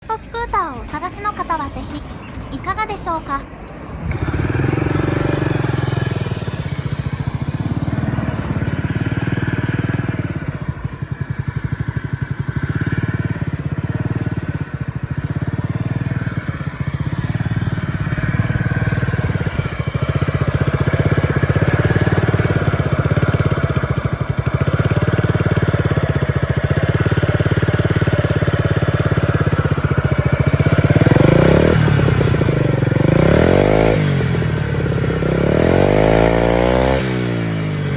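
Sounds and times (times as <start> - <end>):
scooter engine idling and revving: 0.0 - 37.9.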